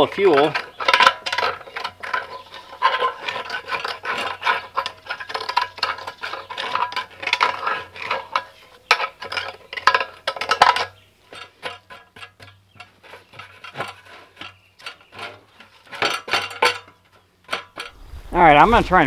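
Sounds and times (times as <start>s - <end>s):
metal tool scraping metal tank: 0.0s - 18.1s.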